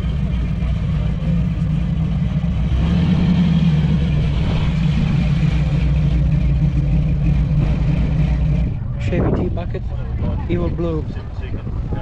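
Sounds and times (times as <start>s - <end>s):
big car engine idling loudly: 0.0s - 12.0s.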